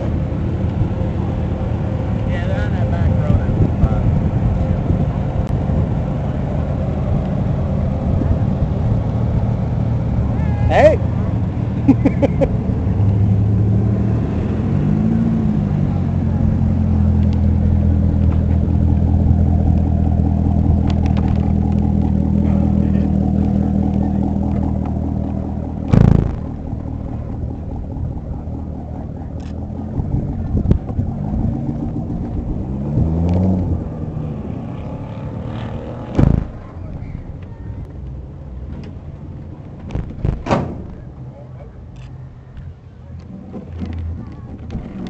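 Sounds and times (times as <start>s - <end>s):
car engine rumbling: 0.0s - 45.0s.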